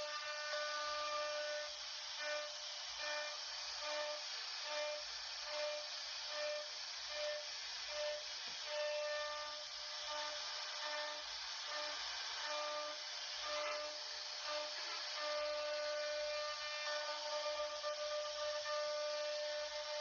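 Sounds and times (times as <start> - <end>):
router cutting hiss: 0.0 - 20.0.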